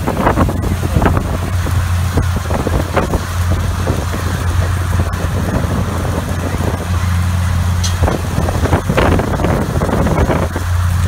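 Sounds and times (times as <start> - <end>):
tractor diesel engine droning: 0.0 - 11.0
wind buffeting microphone: 0.0 - 11.0.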